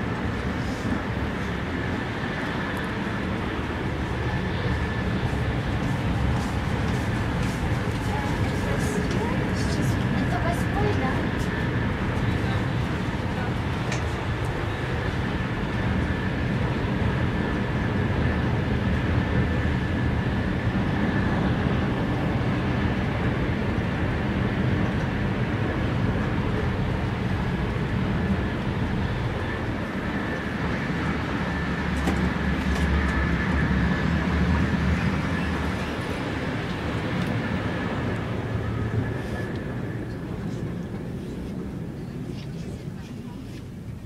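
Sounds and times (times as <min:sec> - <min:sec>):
train rushing and rumbling: 0:00.0 - 0:42.2
high train whine: 0:00.0 - 0:44.0.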